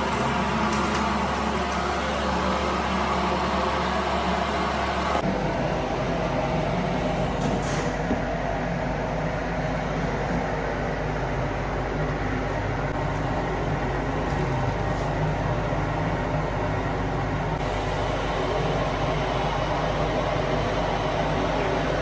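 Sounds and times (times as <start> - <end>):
factory machinery rumbling: 0.0 - 22.0.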